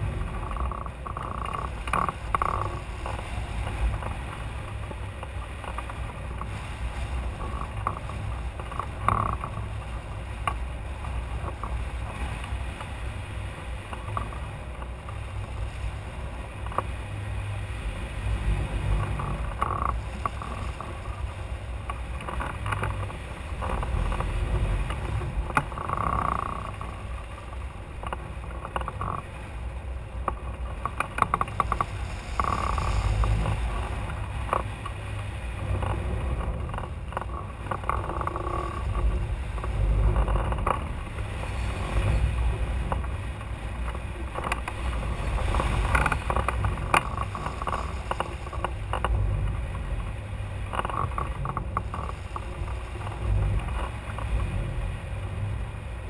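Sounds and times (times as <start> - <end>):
low wind rumble on microphone: 0.0 - 56.0
sail and rigging rattling: 0.0 - 56.0.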